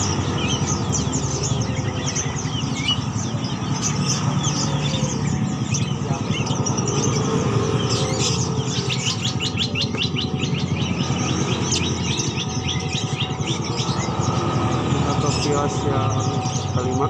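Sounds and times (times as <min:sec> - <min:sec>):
songbirds chirping and twittering: 0:00.0 - 0:17.0.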